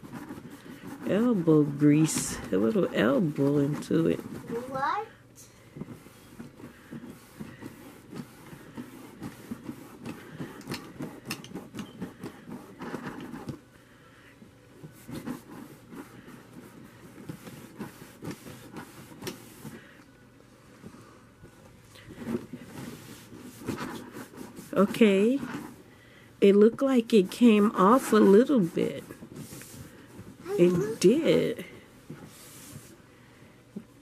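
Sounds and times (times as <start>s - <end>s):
cloth rubbing on wood: 0.0s - 5.0s, 5.7s - 13.6s, 14.8s - 20.0s, 22.1s - 33.0s.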